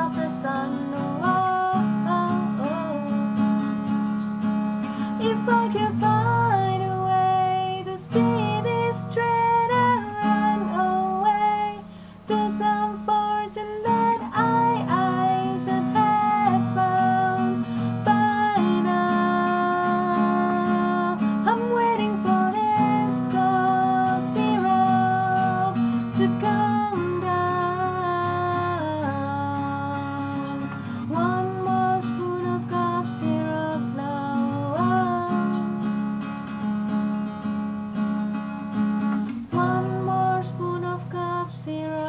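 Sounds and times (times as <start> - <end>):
person singing: 0.0 - 3.8, 4.9 - 36.0, 39.3 - 42.0
acoustic guitar strumming: 0.0 - 42.0.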